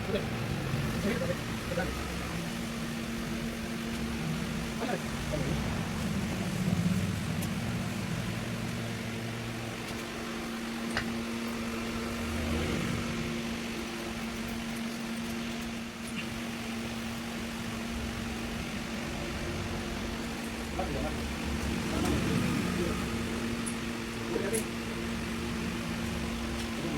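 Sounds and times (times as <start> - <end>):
low machine hum: 0.0 - 26.9.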